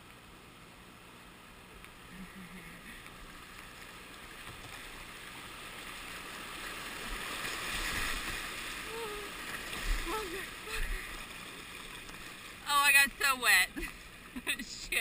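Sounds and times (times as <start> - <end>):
white water rushing: 2.0 - 15.0.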